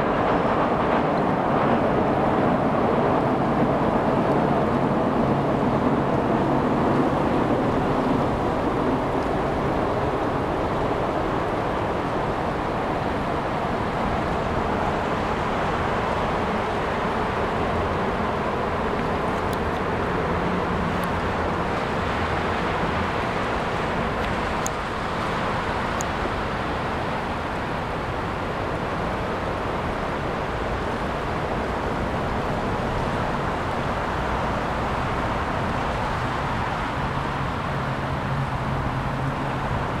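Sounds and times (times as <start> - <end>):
road traffic on bridge: 0.0 - 40.0.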